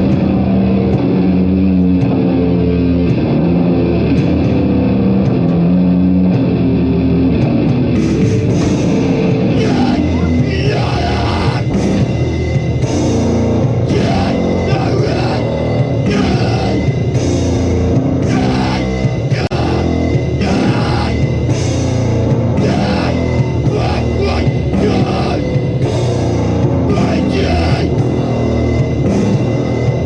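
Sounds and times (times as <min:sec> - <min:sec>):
distorted electric guitar riff: 0:00.0 - 0:30.0
drums and cymbal crashes: 0:00.0 - 0:30.0.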